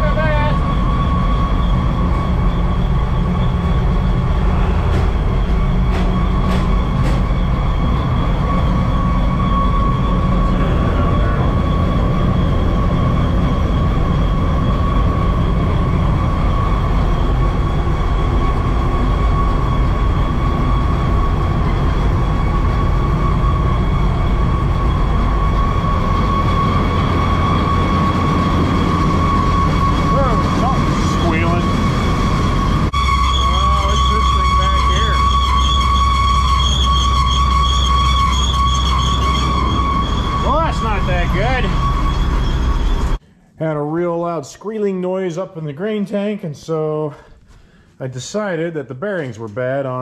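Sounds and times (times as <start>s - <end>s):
combine harvester engine drone: 0.0s - 43.2s
high machinery whine: 0.0s - 43.2s.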